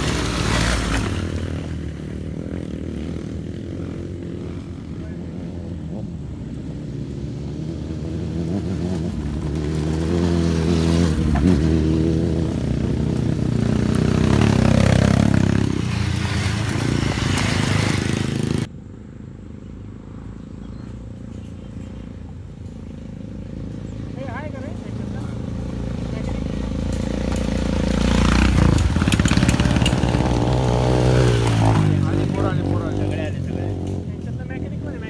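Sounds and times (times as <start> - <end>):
off-road motorcycles riding past: 0.0 - 35.0.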